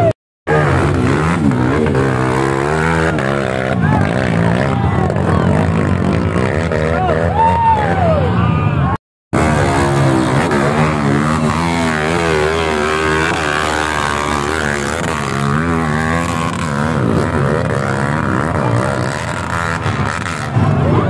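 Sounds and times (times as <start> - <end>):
dirt bike engine revving: 0.0 - 8.1, 9.4 - 21.0.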